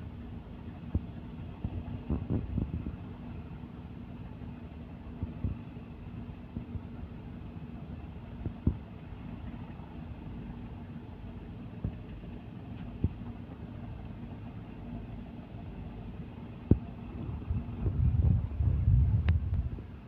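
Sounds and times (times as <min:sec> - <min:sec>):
diesel boat engine rumbling: 0:00.0 - 0:20.0.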